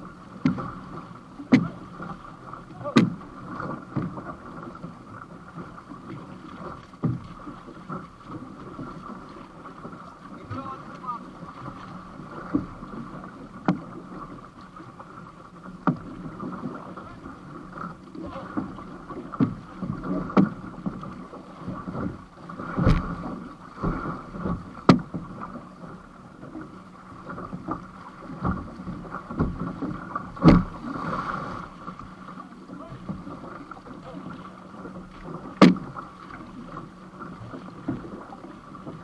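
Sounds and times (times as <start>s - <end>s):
water sloshing against canoe: 0.0s - 39.0s.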